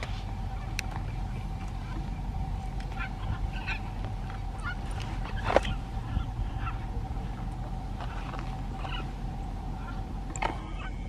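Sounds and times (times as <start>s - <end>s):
macaws squawking: 0.0s - 11.0s.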